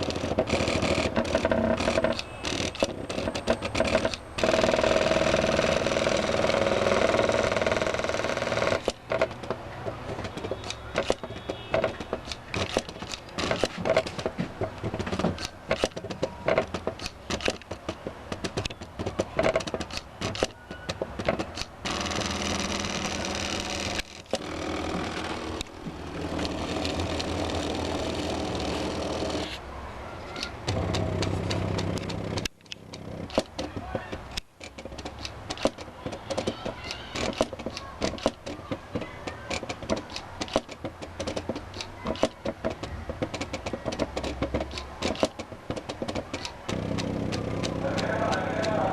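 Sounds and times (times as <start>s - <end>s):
stepper motors whining and clicking: 0.0s - 14.3s, 18.4s - 29.6s, 30.3s - 48.9s.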